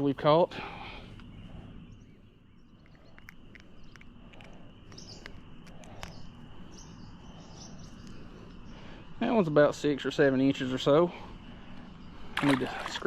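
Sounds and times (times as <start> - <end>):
low background rumble: 0.0 - 12.8
high insect trill: 0.0 - 13.0.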